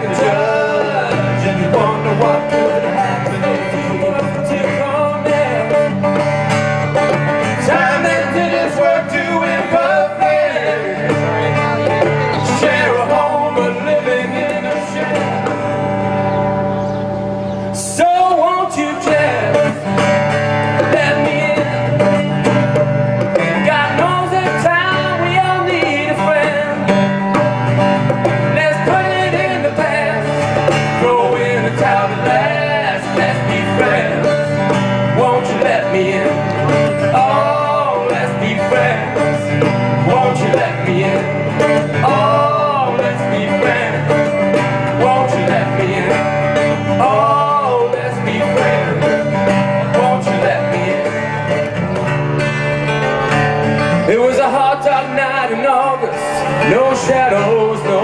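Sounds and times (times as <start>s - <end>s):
hand drums: 0.0s - 16.5s, 18.9s - 54.2s
acoustic guitar strumming: 0.0s - 58.0s.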